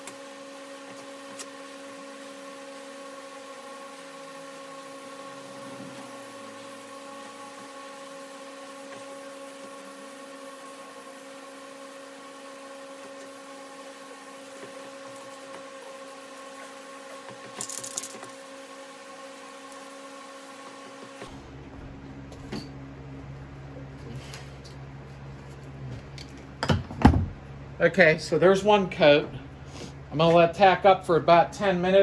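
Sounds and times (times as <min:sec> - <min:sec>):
exhaust fan humming: 0:00.0 - 0:32.0.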